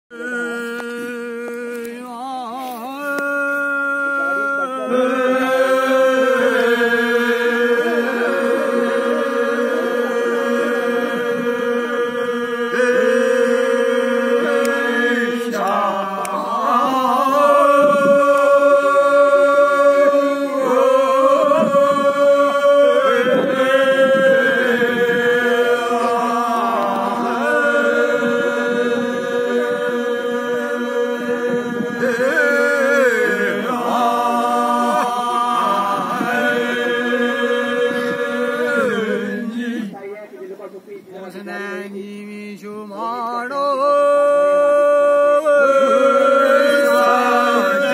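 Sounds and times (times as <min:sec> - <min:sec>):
men chanting long notes: 0:00.1 - 0:40.2, 0:41.2 - 0:47.9.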